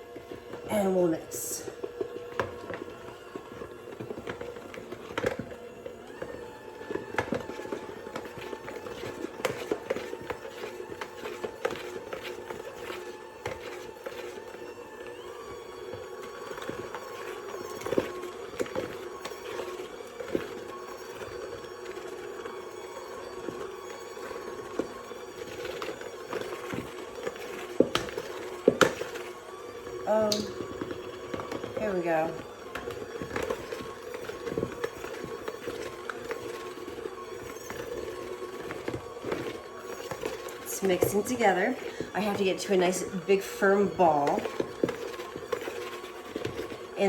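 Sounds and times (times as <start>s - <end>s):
hand mixer motor hum: 0.0s - 47.0s.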